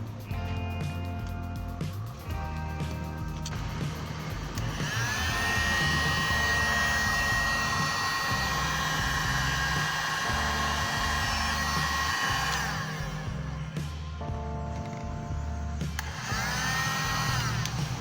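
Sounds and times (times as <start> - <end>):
heat gun fan motor whine: 2.2 - 18.0.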